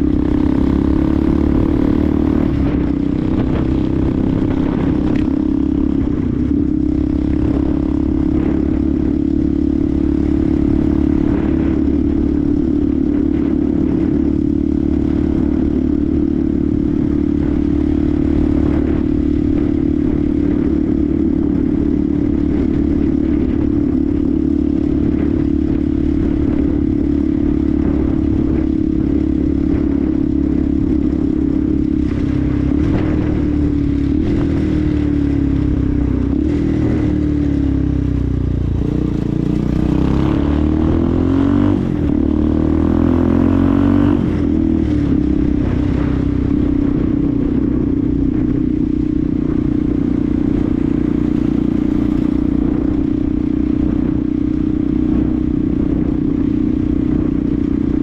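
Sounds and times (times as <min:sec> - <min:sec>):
low wind rumble: 0:00.0 - 0:58.0
motorcycle engine running: 0:00.0 - 0:58.0.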